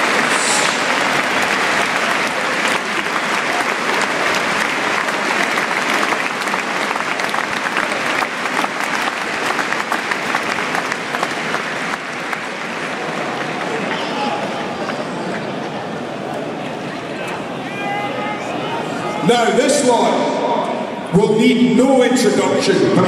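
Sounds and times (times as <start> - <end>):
stadium crowd applauding: 0.0 - 21.2.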